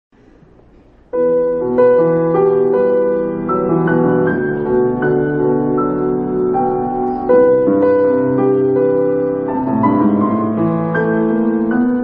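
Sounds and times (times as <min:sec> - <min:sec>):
piano music: 0:01.1 - 0:12.0.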